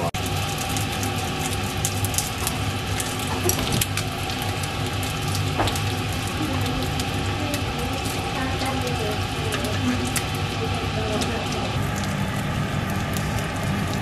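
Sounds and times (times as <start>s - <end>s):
steaks sizzling in oil: 0.2s - 14.0s.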